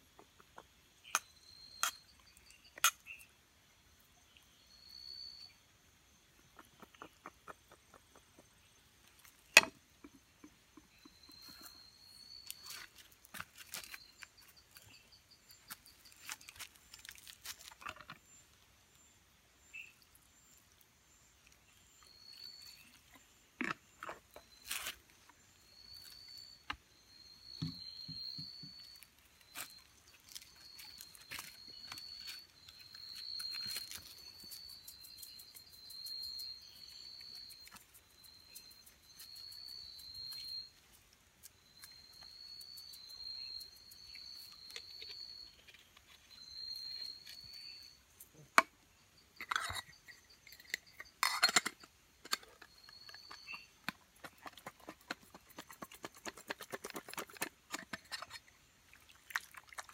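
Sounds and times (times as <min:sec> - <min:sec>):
insect chirps: 0:00.0 - 0:59.9
insects trilling: 0:00.0 - 0:59.9.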